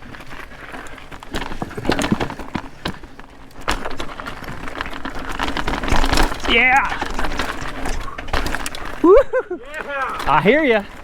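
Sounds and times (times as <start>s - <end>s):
mountain bike clattering over rocks: 0.0s - 11.0s.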